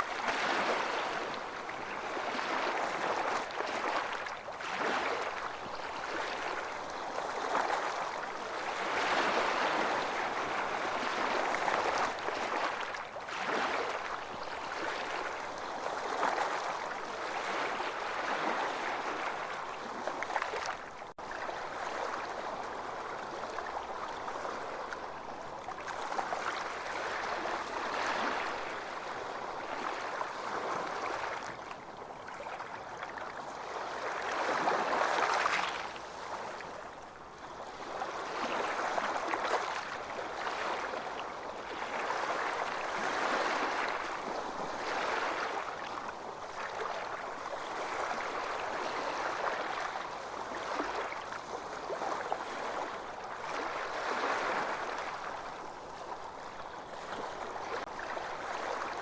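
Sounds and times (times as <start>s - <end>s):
ocean waves washing onto beach: 0.0s - 59.0s.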